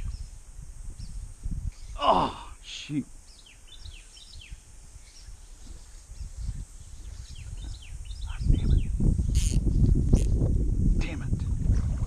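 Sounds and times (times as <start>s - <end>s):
songbirds chirping: 0.0s - 9.9s.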